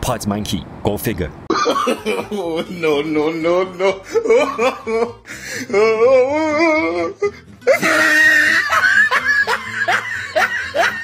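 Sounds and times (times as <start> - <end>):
person laughing: 1.5 - 11.0
comedy soundtrack music: 1.6 - 11.0.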